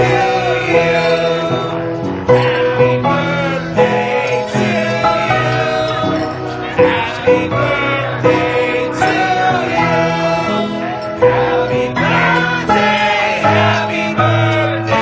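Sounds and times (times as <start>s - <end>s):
sustained chords: 0.0s - 15.0s
voices singing together: 0.0s - 15.0s.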